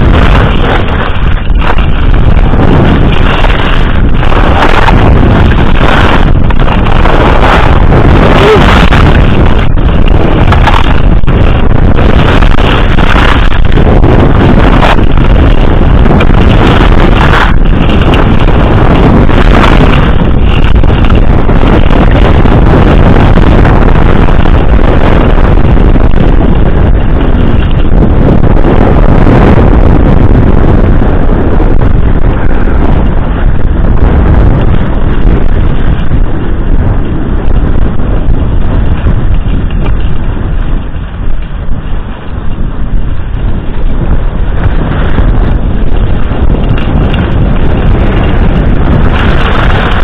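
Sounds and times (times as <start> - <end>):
skis scraping over snow: 0.0 - 50.0
wind rushing over microphone: 0.0 - 50.0.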